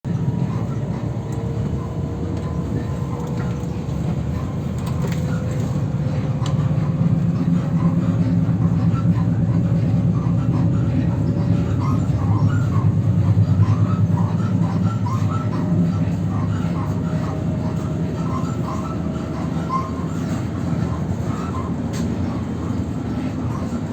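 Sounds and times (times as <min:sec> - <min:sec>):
electric train rumbling: 0:00.1 - 0:23.9
train car squeaking: 0:00.1 - 0:23.9.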